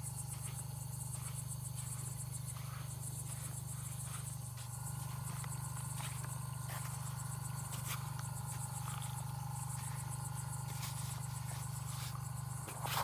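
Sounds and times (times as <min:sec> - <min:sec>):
crickets chirring: 0:00.0 - 0:13.0
insect trills: 0:00.0 - 0:13.0
steady low hum: 0:00.0 - 0:13.0.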